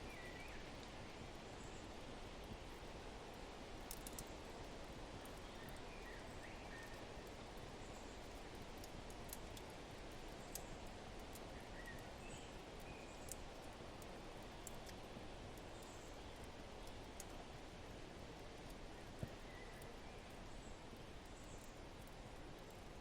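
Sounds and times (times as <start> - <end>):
fire crackling and popping: 2.4 - 6.0, 6.8 - 23.0.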